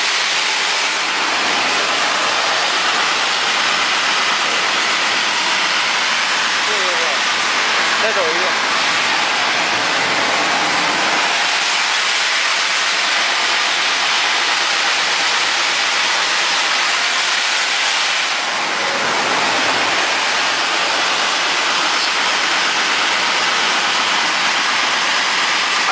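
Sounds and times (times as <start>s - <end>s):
belt sander running: 0.0s - 25.9s.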